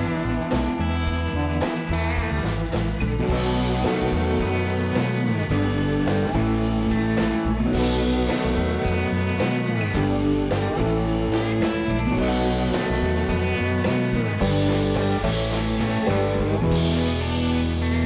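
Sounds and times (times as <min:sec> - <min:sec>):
guitar-led rock music: 0:00.0 - 0:18.0.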